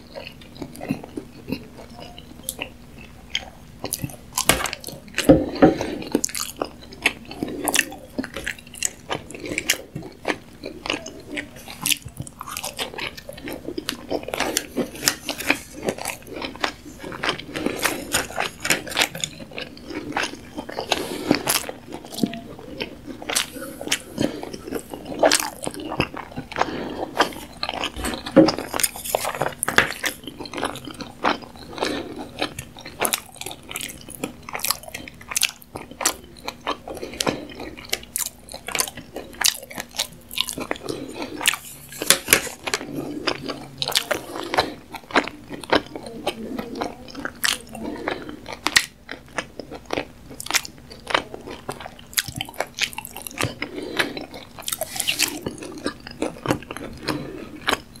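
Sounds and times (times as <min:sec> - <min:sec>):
chewing with wet mouth clicks: 0:00.0 - 0:58.0.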